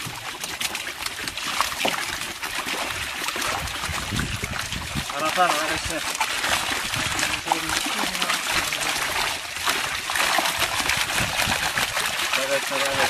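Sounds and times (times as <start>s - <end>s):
fish thrashing and splashing: 0.0s - 13.0s.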